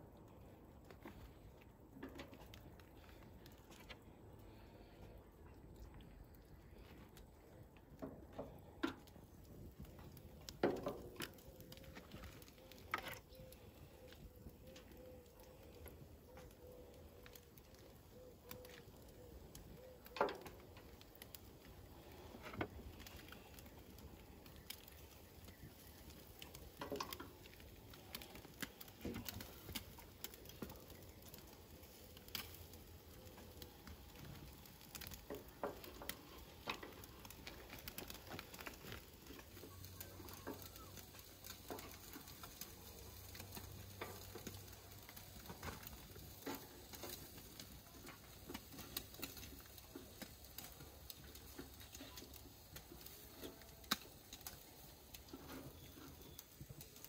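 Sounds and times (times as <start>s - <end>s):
charcoal crackling and sizzling: 0.0s - 57.0s.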